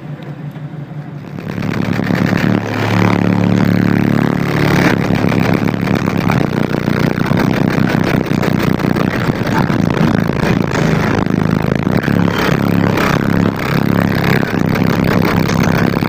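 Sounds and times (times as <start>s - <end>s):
loud car audio bass: 0.0s - 16.0s.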